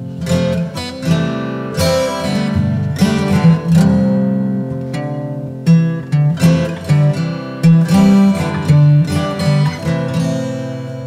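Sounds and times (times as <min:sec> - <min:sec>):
acoustic guitar piece: 0:00.0 - 0:11.0.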